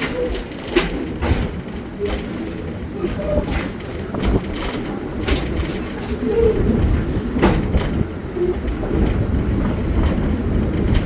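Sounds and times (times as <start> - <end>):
train rumbling on track: 0.0 - 11.0
wheels clacking on rails: 0.0 - 11.0.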